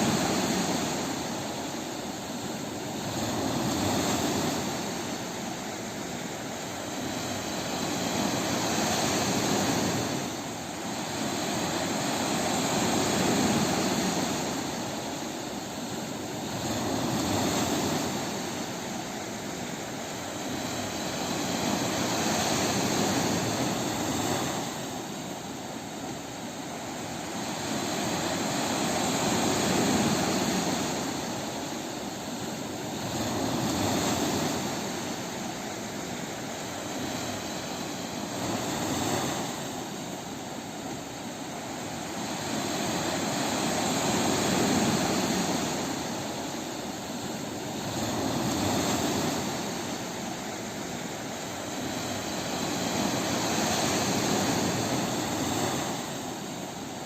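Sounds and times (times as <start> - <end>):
sea waves breaking on a beach: 0.0 - 57.0.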